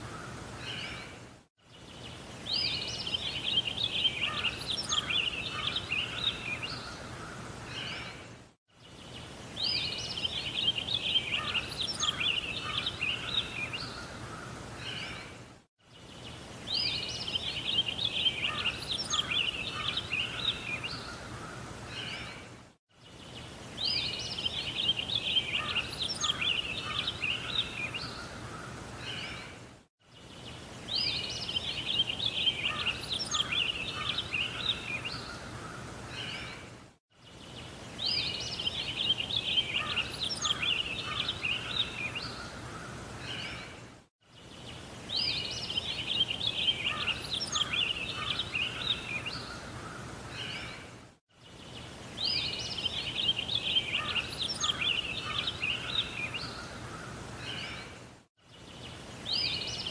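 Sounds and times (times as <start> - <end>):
birdsong chirps and trills: 0.0 - 59.9
outdoor background noise: 0.0 - 59.9.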